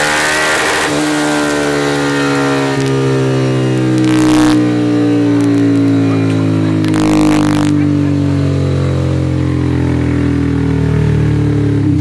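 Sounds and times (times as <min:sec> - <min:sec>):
motorcycle engine on a dyno: 0:00.0 - 0:12.0.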